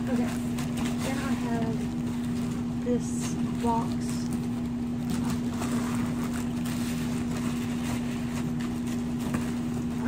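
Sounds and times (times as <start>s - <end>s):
air conditioner humming: 0.0s - 10.0s
plastic bag rustling: 0.0s - 10.0s.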